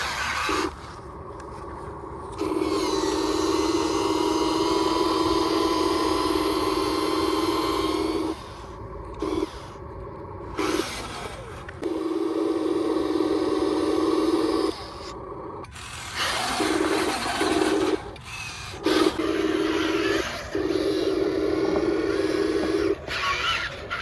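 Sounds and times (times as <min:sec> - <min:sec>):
small electric motor whirring: 0:00.0 - 0:24.0.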